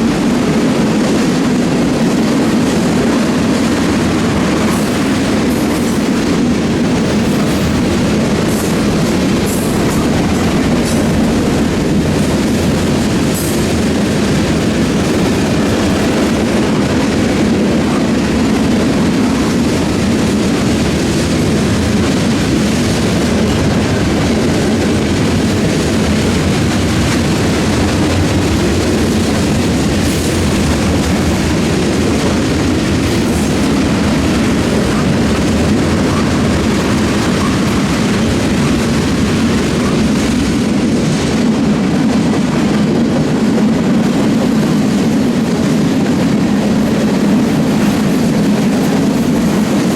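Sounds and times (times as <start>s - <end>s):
train cars rolling on rails: 0.0s - 49.9s.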